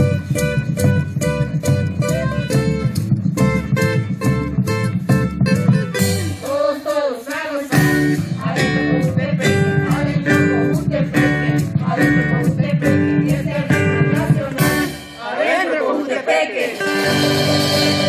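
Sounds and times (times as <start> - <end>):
strummed acoustic guitars: 0.0 - 15.6, 16.6 - 18.0
percussion: 0.0 - 18.0.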